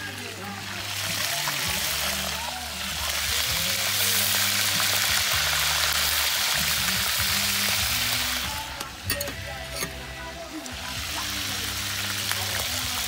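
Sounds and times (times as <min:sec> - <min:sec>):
background music bass line: 0:00.0 - 0:13.0
hot oil sizzling: 0:00.0 - 0:13.0.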